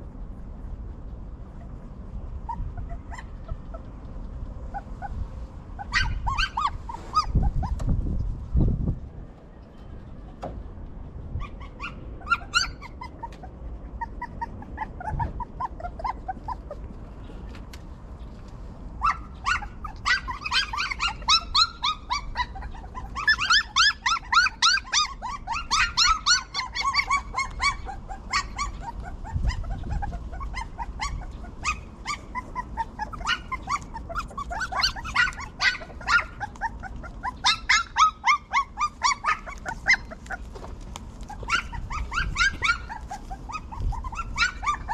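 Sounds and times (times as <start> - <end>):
puppies whining and squealing: 1.5 - 8.3, 11.0 - 17.2, 19.0 - 44.9.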